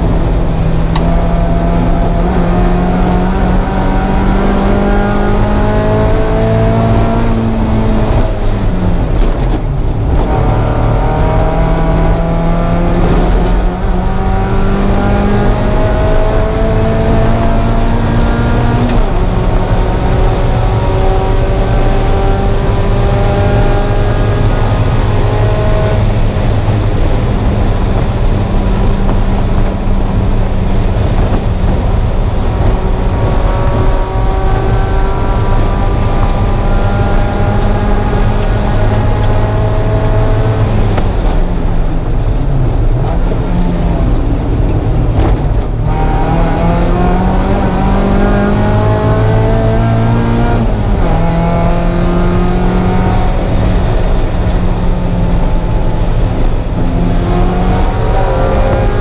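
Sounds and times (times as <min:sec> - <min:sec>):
car engine under load: 0:00.0 - 0:59.0.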